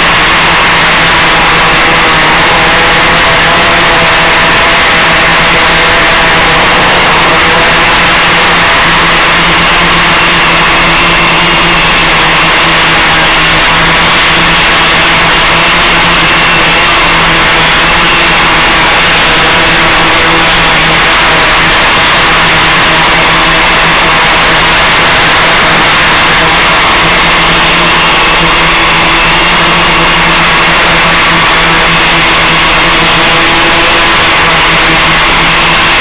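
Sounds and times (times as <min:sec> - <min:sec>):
drone motors humming: 0:00.0 - 0:36.0.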